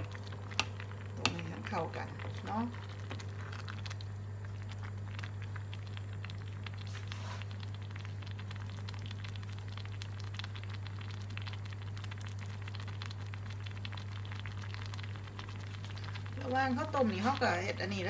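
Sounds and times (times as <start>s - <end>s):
soup boiling and bubbling: 0.0s - 18.0s
steady low hum: 0.0s - 18.0s.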